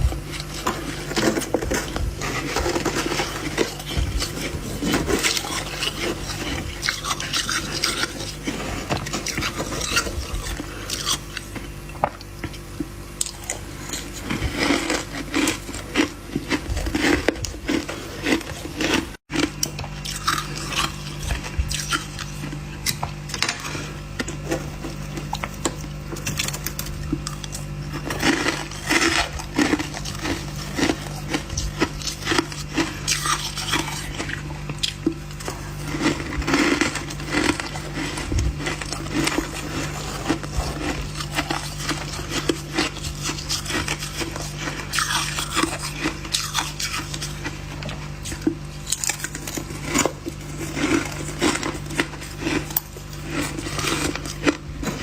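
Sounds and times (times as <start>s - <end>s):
frost being chewed: 0.0s - 55.0s
steady low hum: 0.0s - 55.0s.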